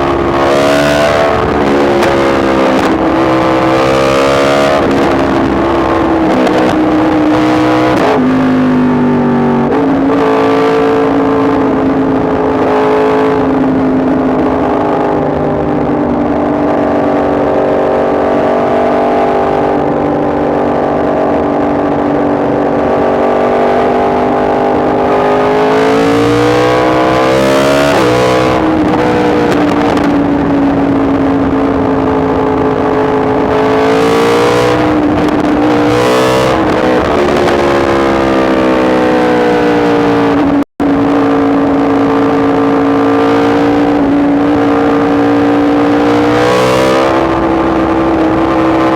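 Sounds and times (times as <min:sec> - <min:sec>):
motorcycle engine running: 0:00.0 - 0:39.2.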